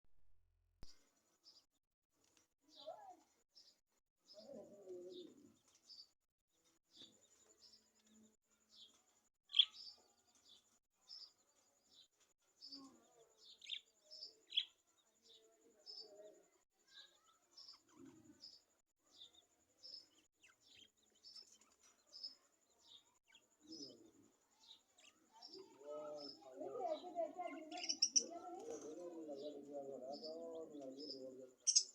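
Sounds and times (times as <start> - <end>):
lovebirds chirping: 2.3 - 31.9.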